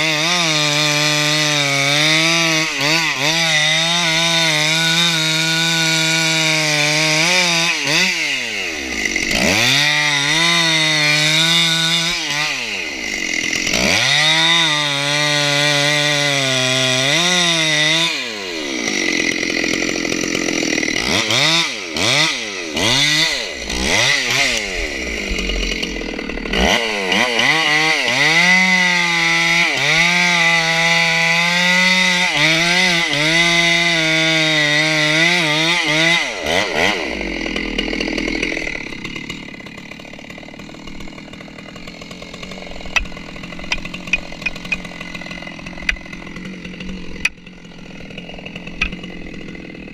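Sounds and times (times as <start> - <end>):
chainsaw cutting wood at full throttle: 0.0 - 49.9.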